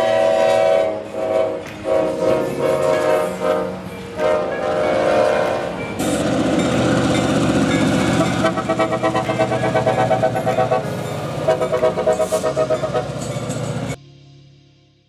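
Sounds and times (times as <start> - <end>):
locomotive air horn: 0.0 - 14.0
train engine and wheel noise: 0.0 - 14.0.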